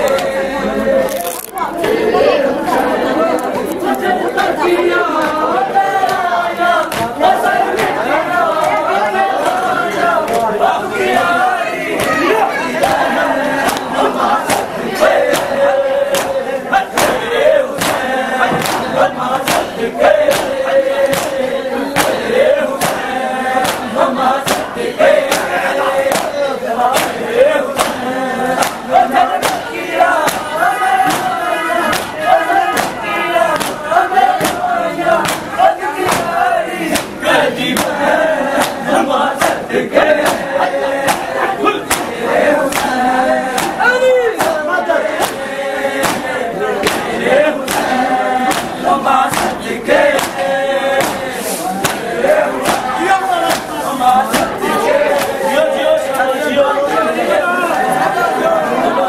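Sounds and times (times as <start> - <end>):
rhythmic hand slaps: 0.0 - 2.0, 2.6 - 59.0
men chanting in unison: 0.0 - 59.0.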